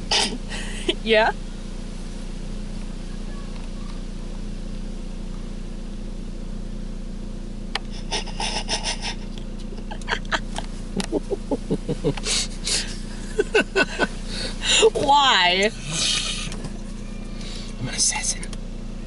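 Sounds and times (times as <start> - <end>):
low car cabin hum: 0.0 - 19.0.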